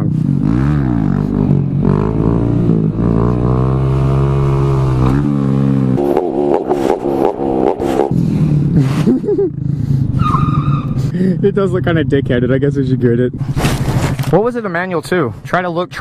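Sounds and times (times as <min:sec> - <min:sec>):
motorcycle engine revving: 0:00.0 - 0:14.5.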